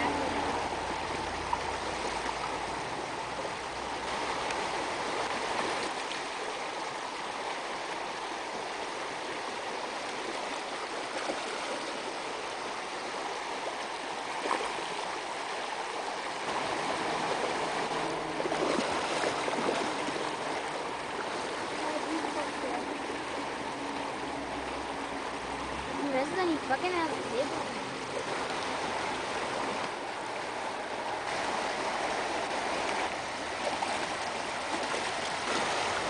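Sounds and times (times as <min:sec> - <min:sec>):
river rushing over gravel: 0:00.0 - 0:36.0.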